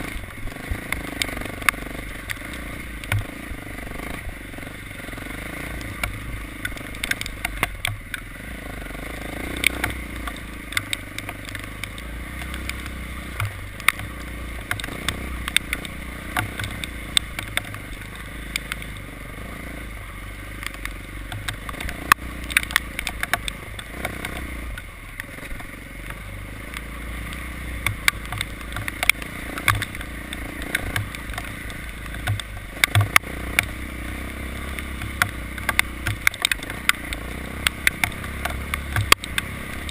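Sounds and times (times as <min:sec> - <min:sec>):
sharp ticks and clatters: 0:00.0 - 0:39.9
vehicle engine running: 0:00.0 - 0:39.9.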